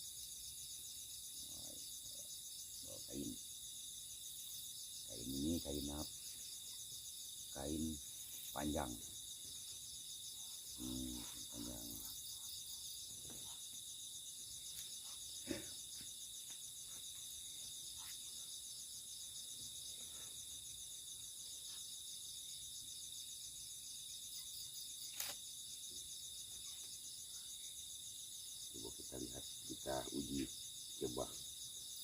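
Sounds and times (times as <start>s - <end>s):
crickets and insects chirring: 0.0s - 32.0s.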